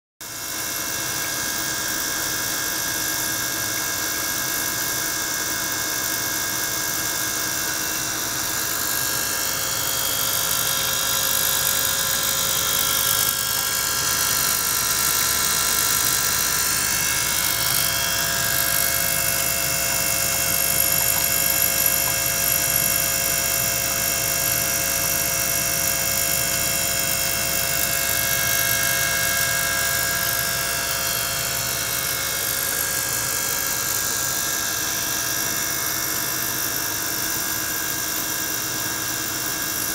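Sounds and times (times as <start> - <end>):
pump machine hum: 0.2 - 39.9.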